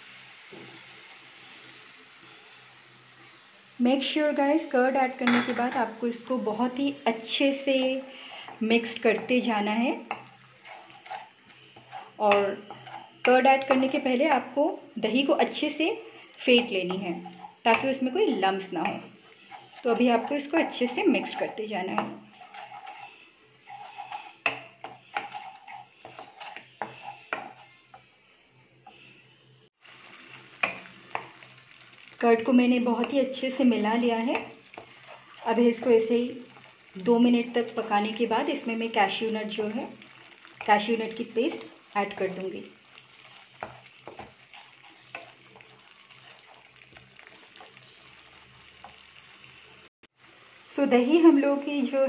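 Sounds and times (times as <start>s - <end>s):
spatula scraping frying pan: 5.2s - 28.2s, 29.9s - 32.1s, 32.8s - 49.7s.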